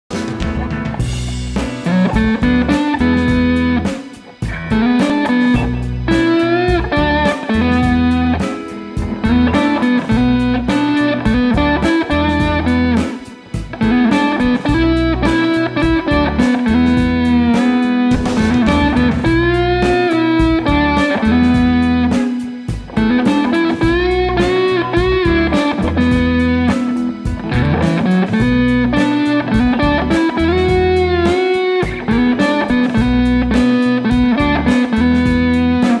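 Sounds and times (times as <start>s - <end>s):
bluesy electric guitar lead: 0.1s - 36.0s.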